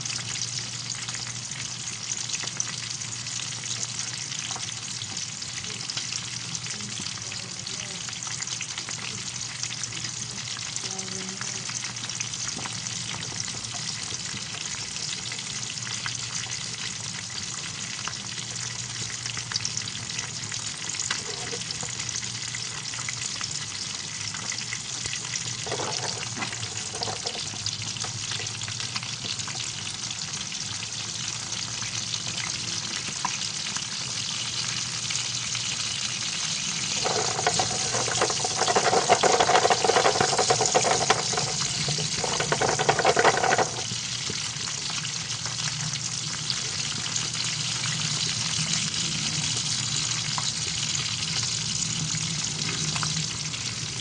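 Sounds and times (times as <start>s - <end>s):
fish frying in hot oil: 0.0s - 54.0s.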